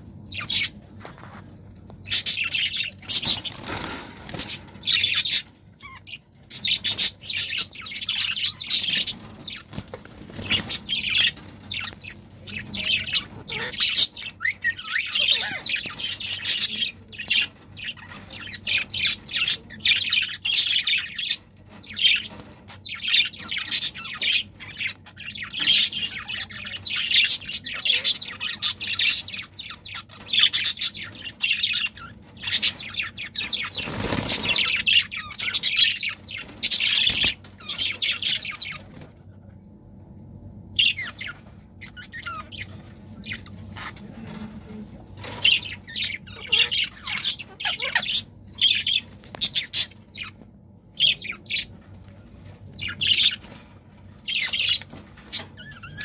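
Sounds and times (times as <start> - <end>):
budgerigars chirping: 0.3 - 0.8, 2.0 - 39.0, 40.8 - 50.4, 51.0 - 51.8, 52.8 - 53.6, 54.2 - 56.0.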